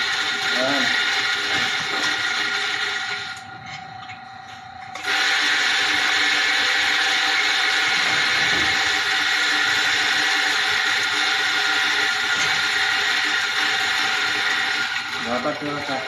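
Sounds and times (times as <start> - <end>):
electric coffee grinder grinding: 0.0 - 3.5, 5.0 - 16.0.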